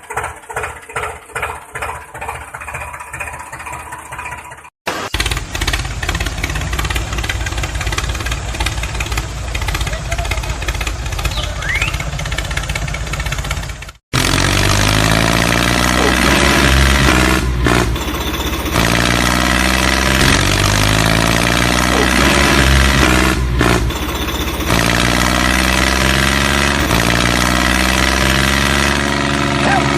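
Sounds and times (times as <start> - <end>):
small engine running: 0.0 - 29.9.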